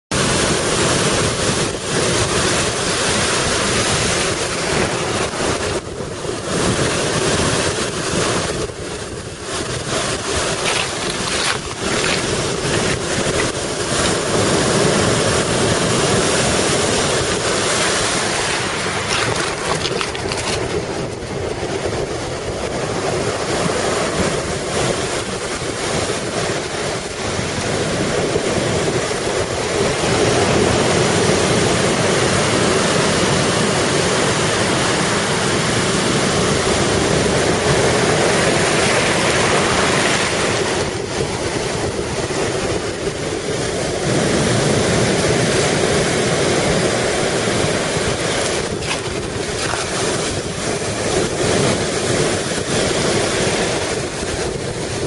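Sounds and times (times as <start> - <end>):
wind buffeting microphone: 0.1 - 55.0
waves breaking on shore: 0.2 - 55.0.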